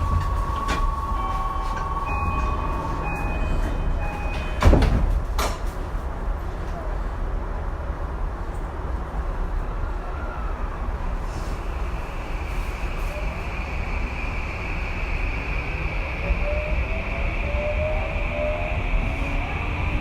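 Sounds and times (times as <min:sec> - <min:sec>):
train wheel and track rumble: 0:00.0 - 0:20.0.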